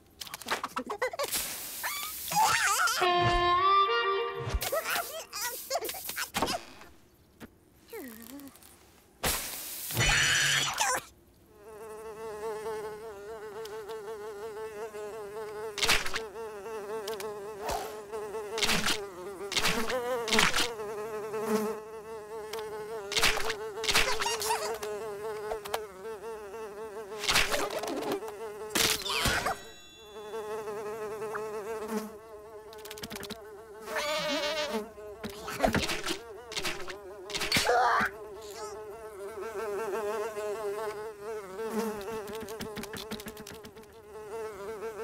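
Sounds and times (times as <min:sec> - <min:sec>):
cartoon fly buzzing: 0:00.9 - 0:06.9, 0:11.7 - 0:45.0.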